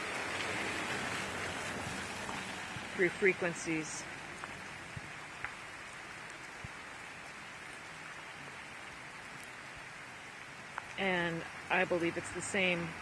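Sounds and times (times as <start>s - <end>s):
rain on pavement and trees: 0.0s - 13.0s.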